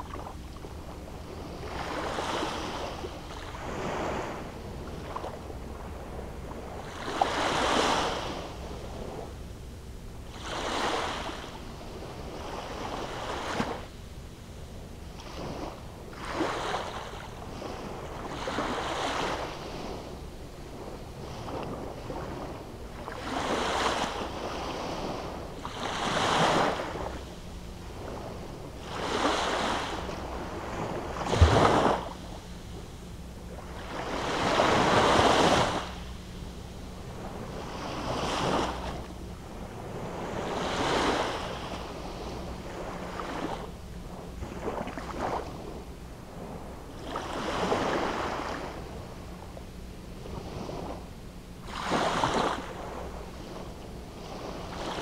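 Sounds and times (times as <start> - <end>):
small waves breaking on beach: 0.0 - 9.4, 10.2 - 55.0.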